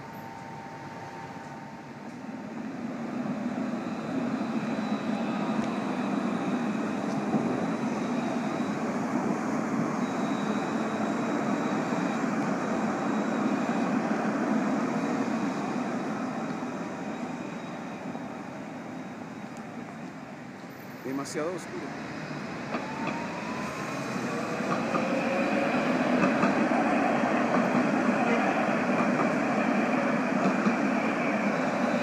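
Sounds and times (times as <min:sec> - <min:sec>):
faint high whine: 0:00.0 - 0:32.0
tram passing: 0:00.0 - 0:32.0.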